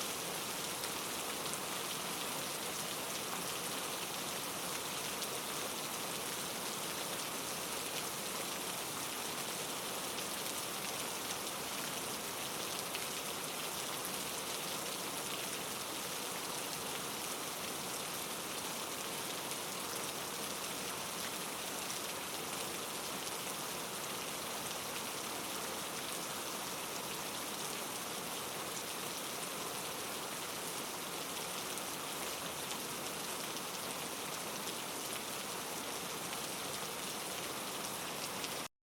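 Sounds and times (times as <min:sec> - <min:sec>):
steady rainfall: 0:00.0 - 0:38.7.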